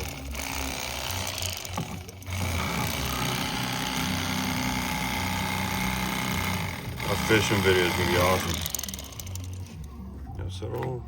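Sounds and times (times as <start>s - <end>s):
motor humming: 0.0s - 10.2s.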